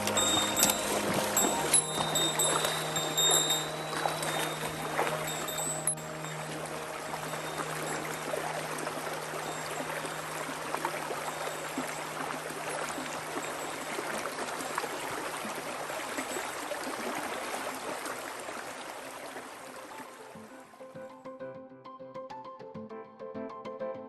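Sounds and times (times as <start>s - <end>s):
stream rushing over rocks: 0.0s - 20.4s.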